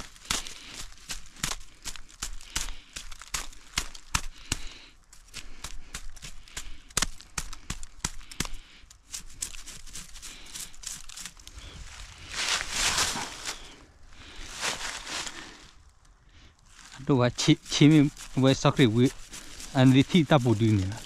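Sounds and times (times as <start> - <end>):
brush rustling: 0.0 - 21.0
footsteps on dry leaves and twigs: 0.0 - 21.0.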